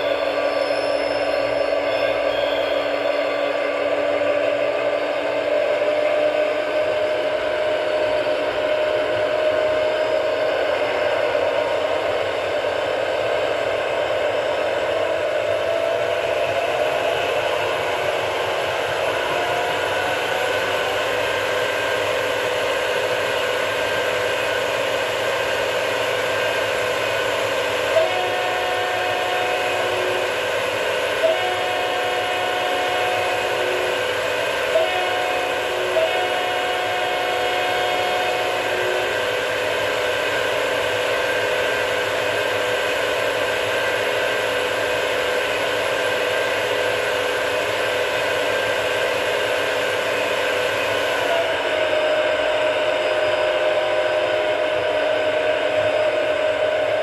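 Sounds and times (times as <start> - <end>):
model diesel engine sound: 0.0 - 57.0
steady held tone: 0.0 - 57.0.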